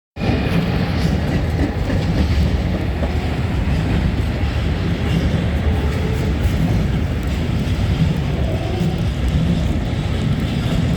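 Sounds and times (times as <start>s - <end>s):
freight train wheels rumbling on rails: 0.2s - 10.9s.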